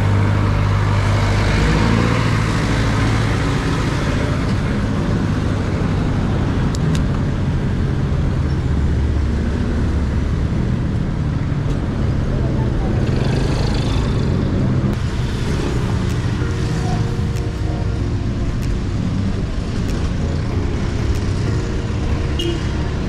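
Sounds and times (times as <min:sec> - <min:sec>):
road noise: 0:00.0 - 0:23.0
vehicle engines humming: 0:00.0 - 0:23.0.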